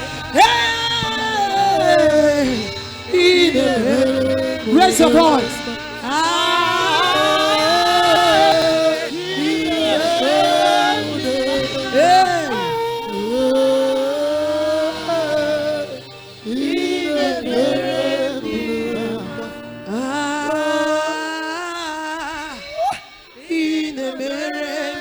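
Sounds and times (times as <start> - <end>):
worship singing with music: 0.0 - 25.0.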